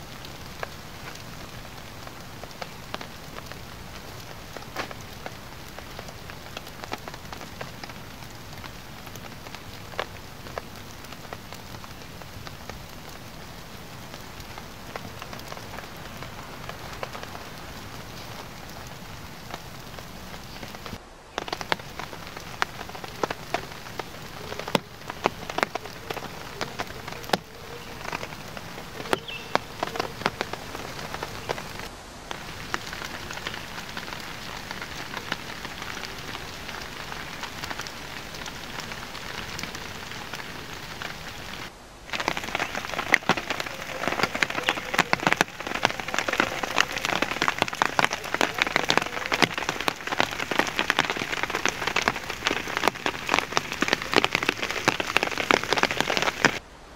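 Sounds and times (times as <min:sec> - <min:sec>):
rain on a plastic tarp: 0:00.0 - 0:56.9.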